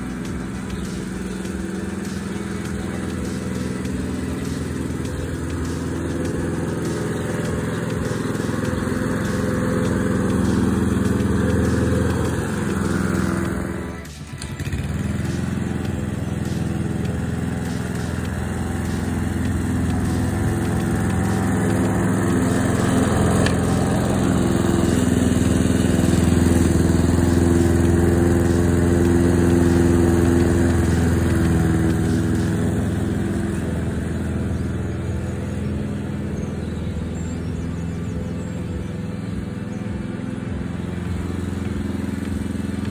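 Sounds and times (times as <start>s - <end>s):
lawn mower cutting grass: 0.0s - 42.9s.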